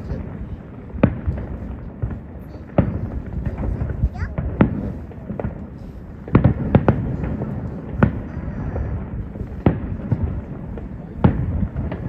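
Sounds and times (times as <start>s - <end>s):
crackling rumble of fireworks: 0.0s - 12.0s
fireworks bangs: 0.0s - 12.0s.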